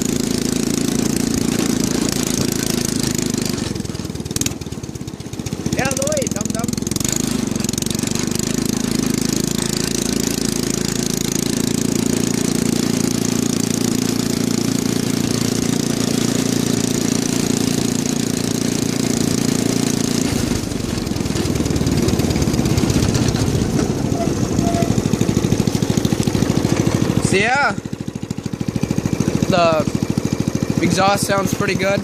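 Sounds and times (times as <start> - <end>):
go-kart engine droning: 0.0 - 32.0.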